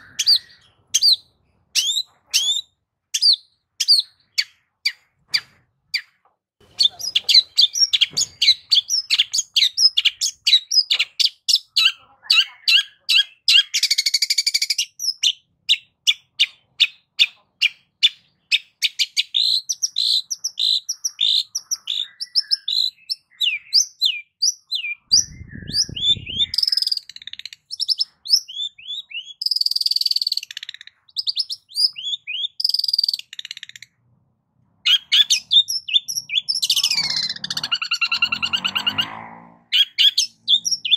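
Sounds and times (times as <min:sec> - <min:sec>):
bird singing: 0:00.0 - 0:34.0, 0:34.8 - 0:40.9.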